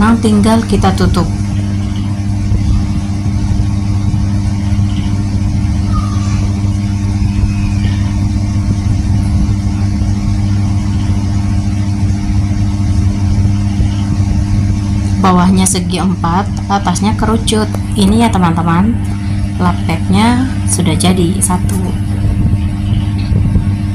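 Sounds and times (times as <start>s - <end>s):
low machine hum: 0.0s - 23.9s.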